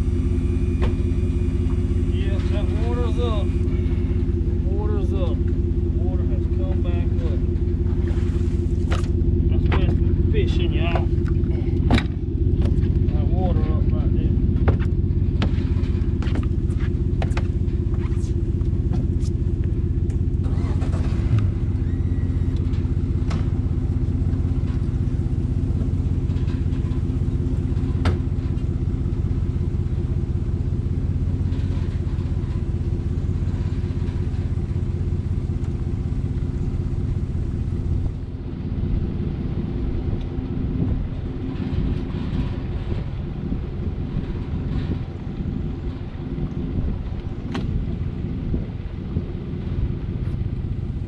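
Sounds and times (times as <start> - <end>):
engine running steadily: 0.0 - 51.0.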